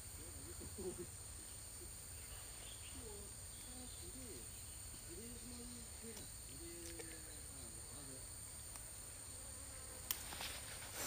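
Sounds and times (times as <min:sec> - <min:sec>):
insect chorus: 0:00.0 - 0:11.0
mosquitoes humming: 0:00.0 - 0:11.0.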